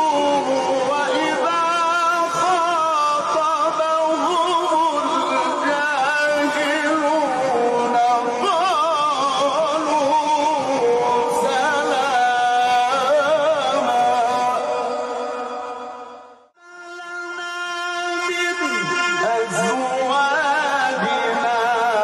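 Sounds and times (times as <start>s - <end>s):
man chanting melodic recitation: 0.0s - 22.0s.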